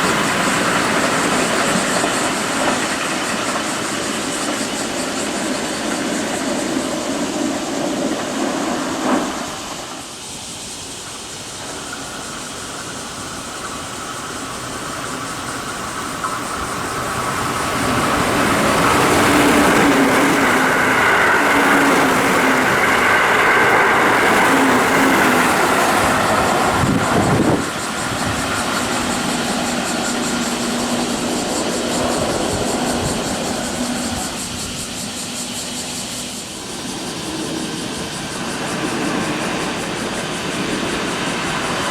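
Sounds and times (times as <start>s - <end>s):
electric train passing: 0.0s - 41.9s.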